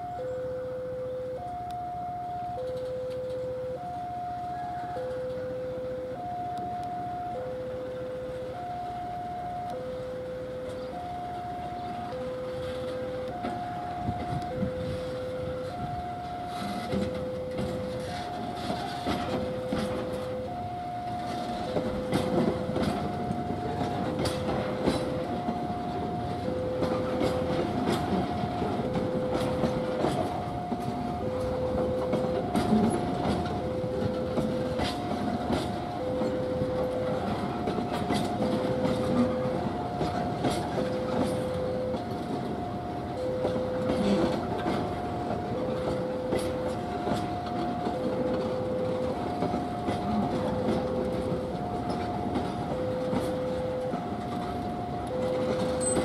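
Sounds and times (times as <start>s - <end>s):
two-tone electronic warning signal: 0.0s - 56.0s
train wheels clicking over rail joints: 2.4s - 5.5s, 9.6s - 56.0s.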